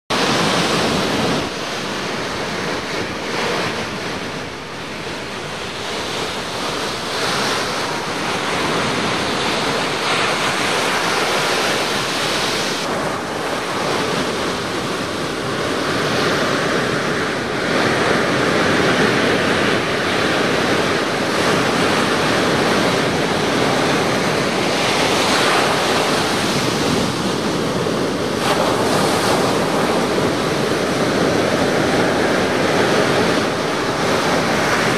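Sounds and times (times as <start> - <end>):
ocean waves breaking: 0.1 - 34.9.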